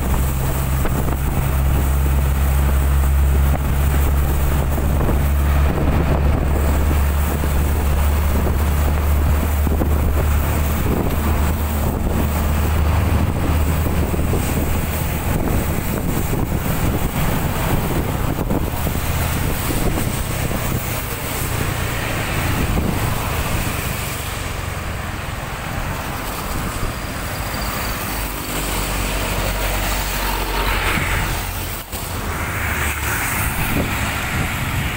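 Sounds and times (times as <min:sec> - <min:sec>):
road traffic noise: 0:00.0 - 0:34.9
vehicles passing: 0:00.0 - 0:34.9
wind buffeting microphone: 0:00.0 - 0:34.9.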